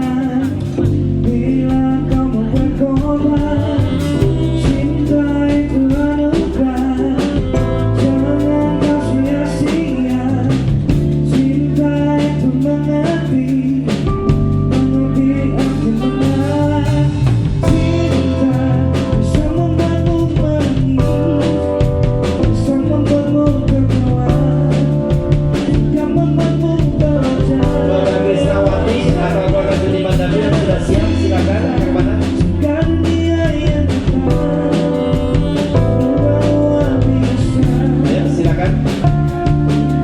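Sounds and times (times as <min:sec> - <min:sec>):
live band playing love song: 0:00.0 - 0:40.0
person singing: 0:00.0 - 0:40.0.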